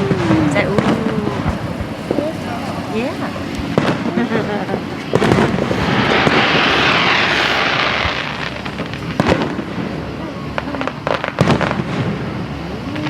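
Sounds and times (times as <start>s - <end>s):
firework bangs: 0.0s - 12.5s
firework hissing crackle: 0.0s - 12.9s.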